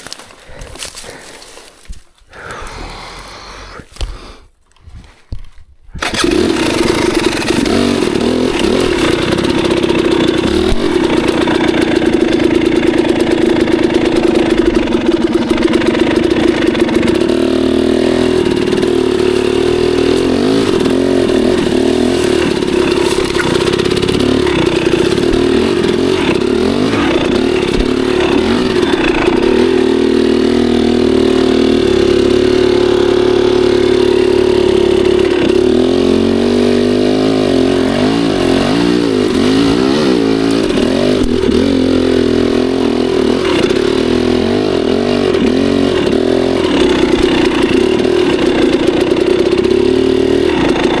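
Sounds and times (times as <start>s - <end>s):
dirt bike engine revving: 6.0s - 51.0s.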